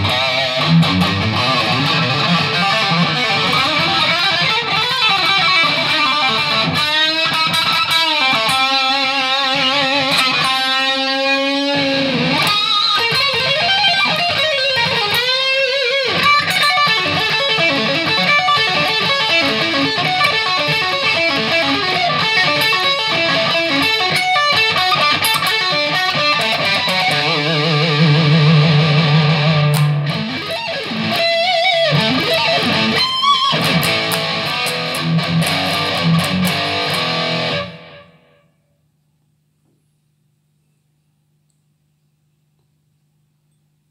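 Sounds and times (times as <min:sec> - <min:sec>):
solo electric guitar: 0:00.0 - 0:38.8.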